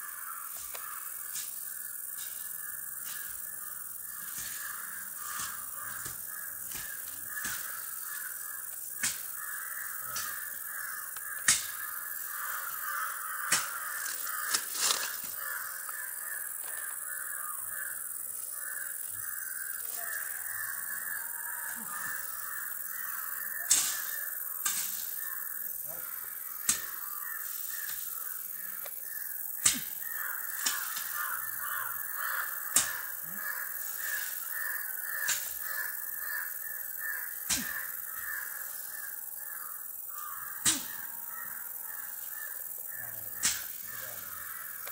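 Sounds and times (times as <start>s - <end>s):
chorus of harsh animal calls: 0.0s - 44.9s.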